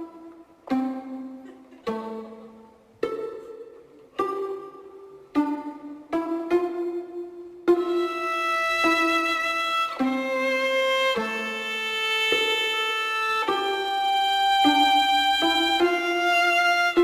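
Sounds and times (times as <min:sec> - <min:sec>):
slow melody of held notes: 0:00.0 - 0:17.0.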